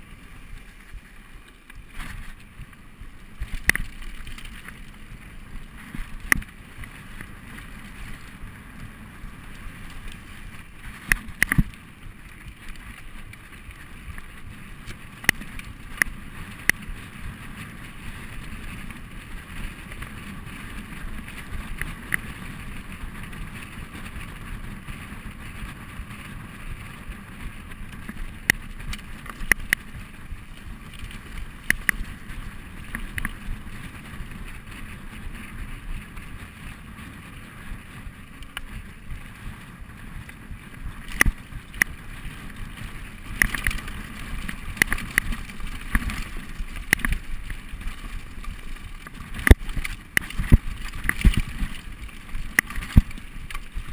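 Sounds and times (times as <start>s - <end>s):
bike clacking over bumps: 0.6s - 53.9s.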